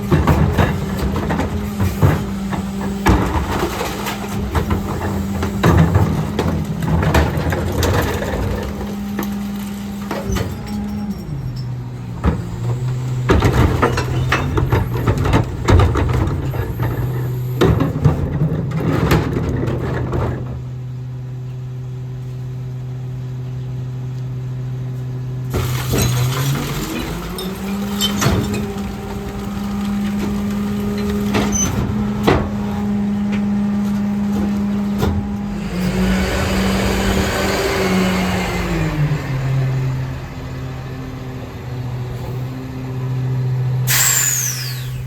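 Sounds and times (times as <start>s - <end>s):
recycling clattering into hopper: 0.0s - 20.8s, 25.4s - 44.3s
garbage truck diesel engine: 0.0s - 45.0s.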